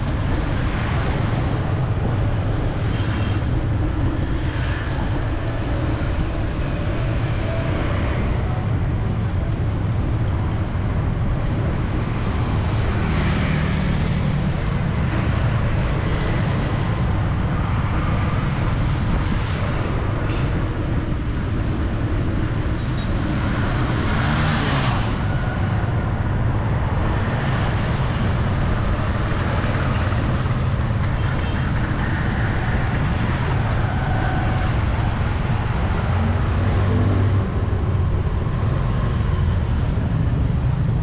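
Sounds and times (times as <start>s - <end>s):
street traffic hum: 0.0s - 41.0s.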